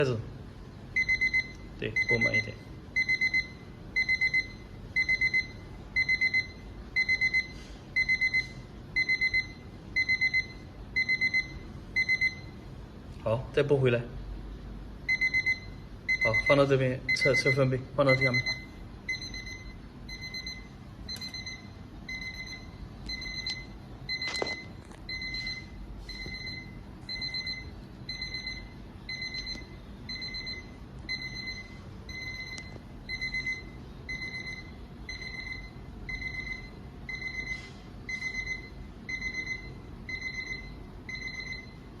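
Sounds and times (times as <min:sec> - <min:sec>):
alarm clock beeping: 0:01.0 - 0:12.6, 0:15.1 - 0:41.9.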